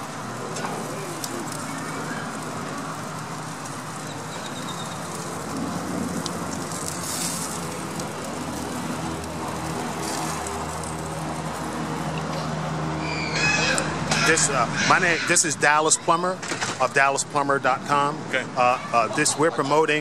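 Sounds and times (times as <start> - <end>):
steak sizzling on a grill: 0.0 - 20.0.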